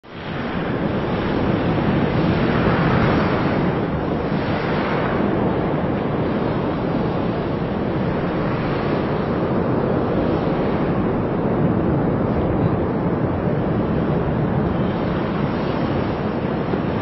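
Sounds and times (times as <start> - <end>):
lava fountain rushing rumble: 0.0 - 17.0.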